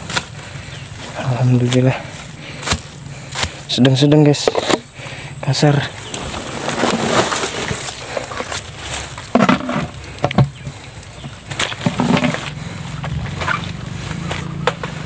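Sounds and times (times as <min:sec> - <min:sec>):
footsteps through tall grass: 0:00.0 - 0:04.3, 0:05.7 - 0:15.0.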